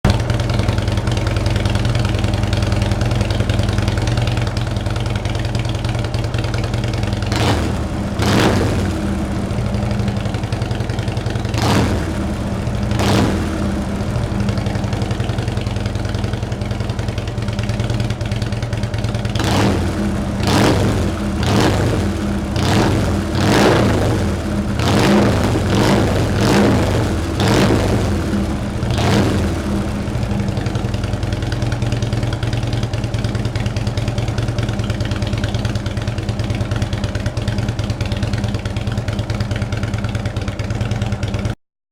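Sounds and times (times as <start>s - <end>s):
motorcycle engine idling: 0.0s - 41.6s.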